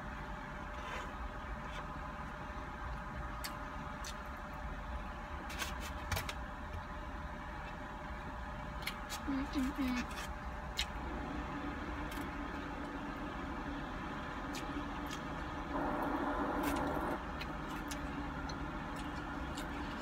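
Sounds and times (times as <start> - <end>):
low vehicle hum in car cabin: 0.0 - 20.0.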